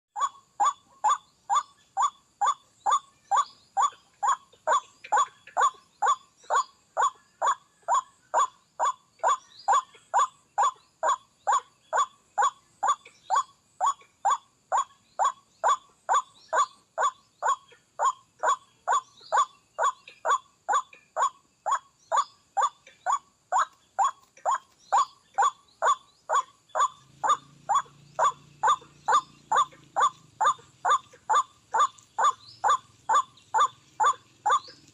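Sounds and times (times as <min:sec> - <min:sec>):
waterhen calling: 0:00.2 - 0:34.9.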